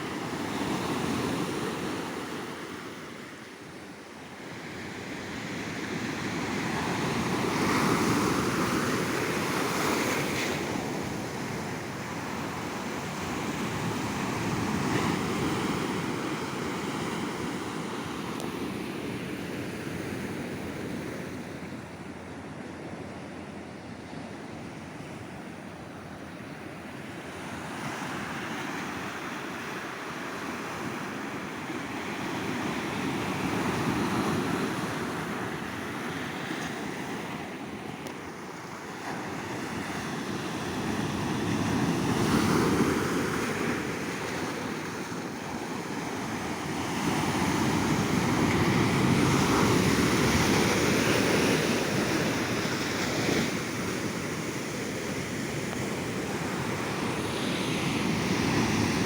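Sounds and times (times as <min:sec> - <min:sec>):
ocean surf breaking on beach: 0:04.3 - 0:21.6, 0:25.6 - 0:59.0.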